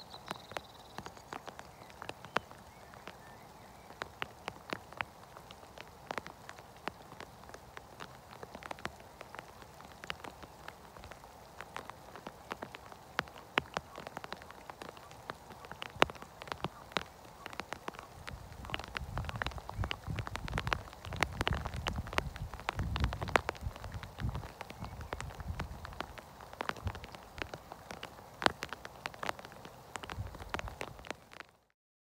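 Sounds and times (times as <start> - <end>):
faint steady hiss: 0.0 - 31.7
raindrops ticking on surface: 0.0 - 31.7.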